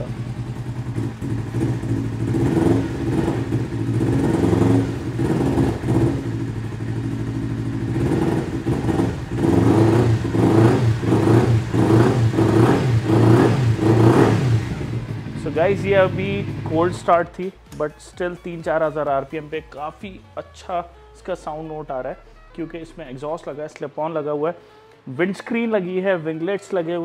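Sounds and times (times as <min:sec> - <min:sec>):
motorcycle engine revving: 0:00.0 - 0:23.8.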